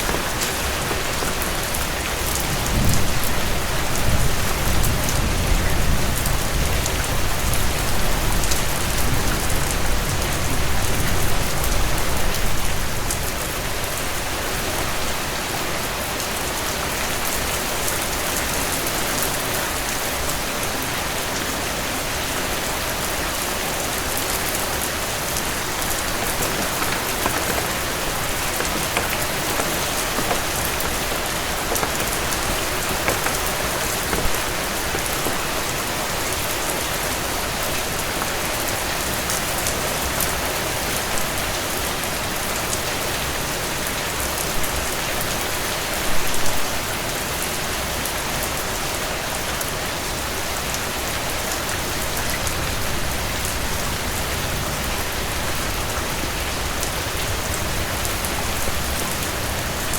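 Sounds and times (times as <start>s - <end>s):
heavy rain on a porch: 0.0s - 59.9s.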